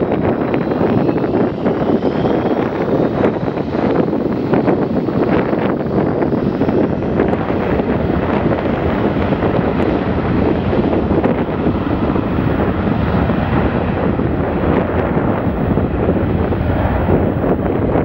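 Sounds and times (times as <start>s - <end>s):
jet engines roaring: 0.0s - 18.0s
wind buffeting microphone: 0.0s - 18.0s.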